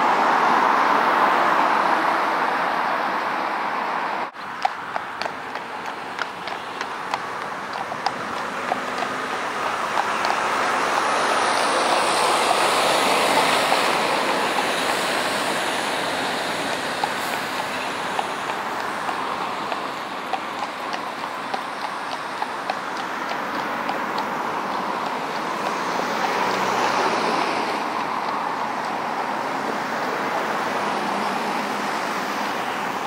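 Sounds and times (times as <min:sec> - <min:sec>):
horse hooves clip-clopping on tarmac: 0:04.3 - 0:33.0
lorry passing: 0:04.8 - 0:31.9.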